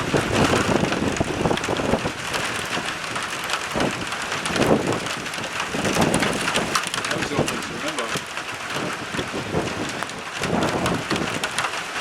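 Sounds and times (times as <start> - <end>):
raindrops hitting: 0.0 - 12.0
wind buffeting microphone: 0.0 - 12.0.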